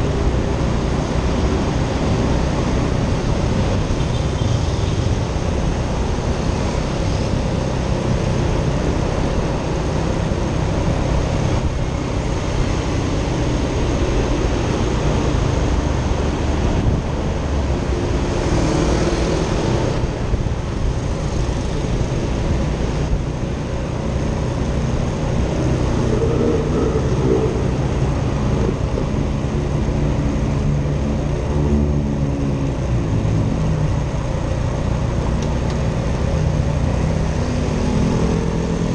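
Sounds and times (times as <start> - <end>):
traffic: 0.0 - 38.9
wind rumble on microphone: 0.0 - 38.9.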